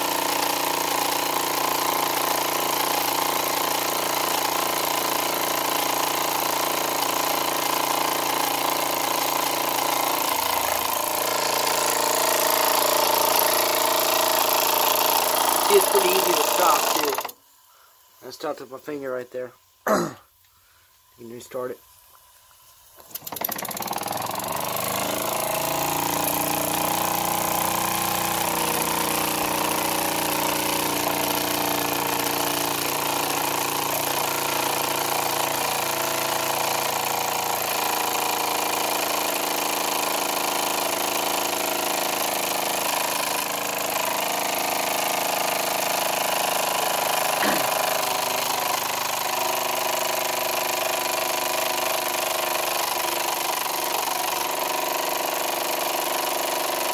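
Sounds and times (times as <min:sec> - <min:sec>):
toy steam engine running: 0:00.0 - 0:17.4, 0:23.0 - 0:56.9.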